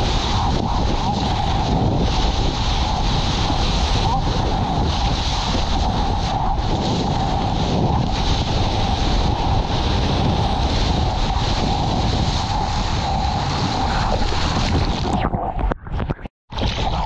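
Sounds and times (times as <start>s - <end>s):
wind buffeting on microphone: 0.0s - 17.0s.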